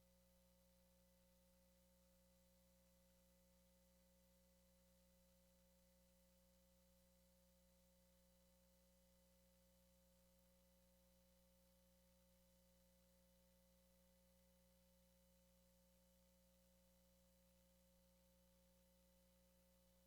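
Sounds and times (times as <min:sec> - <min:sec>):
faint hum and hiss: 0:00.0 - 0:20.0.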